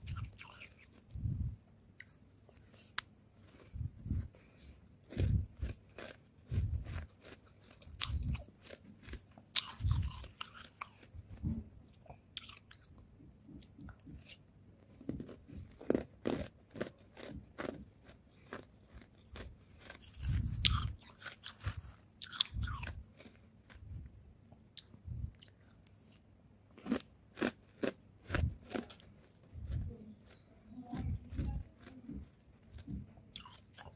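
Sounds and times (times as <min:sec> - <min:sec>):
chewing and crunching frost: 0:00.0 - 0:01.1, 0:02.0 - 0:11.4, 0:12.4 - 0:12.9, 0:13.6 - 0:23.9, 0:24.8 - 0:33.9.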